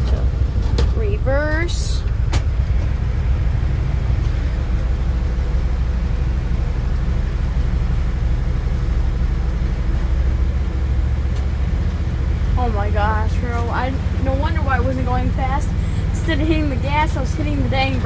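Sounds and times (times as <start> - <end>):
lawn mower engine rumbling: 0.0 - 18.0.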